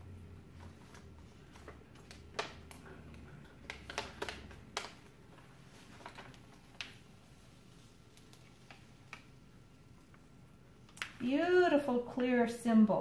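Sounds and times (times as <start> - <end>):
plastic sheet crinkling: 0.5 - 11.3.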